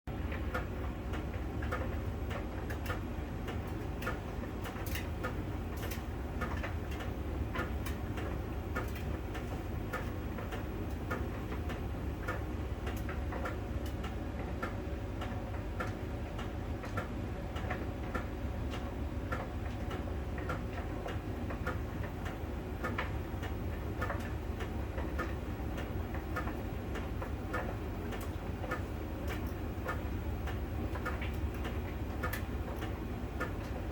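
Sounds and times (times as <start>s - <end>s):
tumble dryer drum humming: 0.1s - 33.9s.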